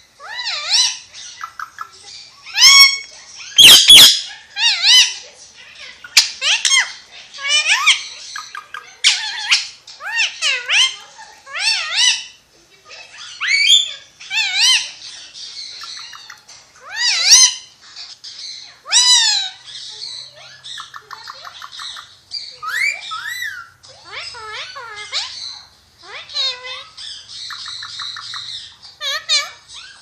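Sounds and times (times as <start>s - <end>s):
parakeet squawking: 0.1s - 30.0s
parakeet clicking chatter: 0.2s - 12.4s, 13.1s - 30.0s.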